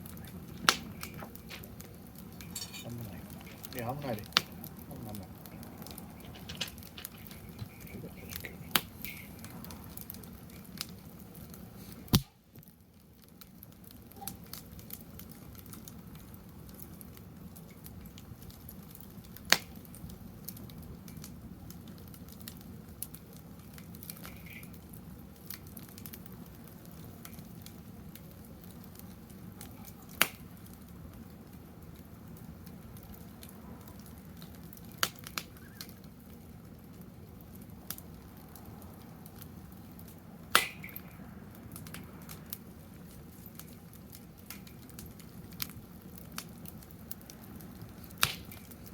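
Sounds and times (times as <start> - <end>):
burning wood popping: 0.0 - 48.9
wood fire crackling: 0.0 - 48.9.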